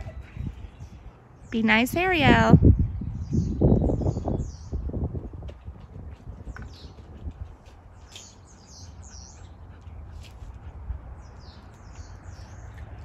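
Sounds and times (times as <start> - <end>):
small birds chirping: 0.0 - 5.0, 6.1 - 13.0.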